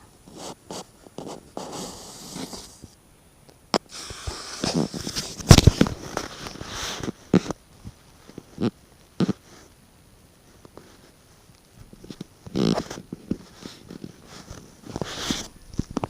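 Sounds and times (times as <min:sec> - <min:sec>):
scratching and rustling in chimney: 0:00.0 - 0:03.0, 0:03.8 - 0:09.8, 0:10.5 - 0:16.0.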